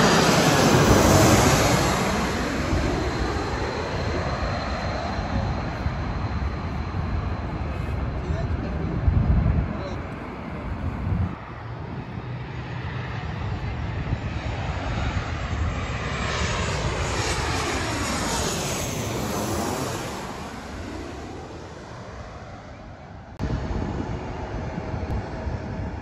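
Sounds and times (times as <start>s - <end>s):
jet airliner passing overhead: 0.0s - 26.0s
steady low rumble: 0.0s - 26.0s.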